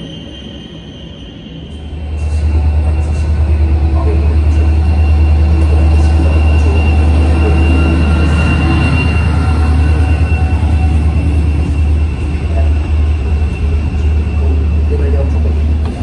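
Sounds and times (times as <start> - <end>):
diesel locomotive rumble: 1.6 - 16.0.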